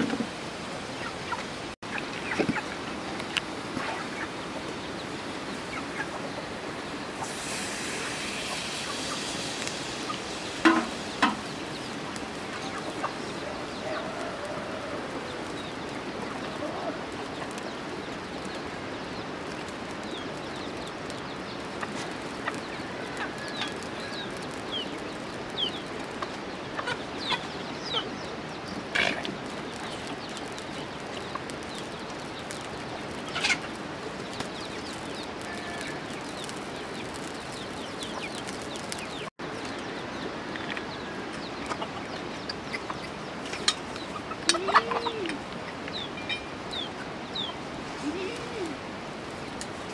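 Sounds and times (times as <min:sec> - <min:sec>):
chickens clucking: 0:00.0 - 0:49.9
steady background hiss: 0:00.0 - 0:49.9
small birds chirping: 0:00.8 - 0:49.9.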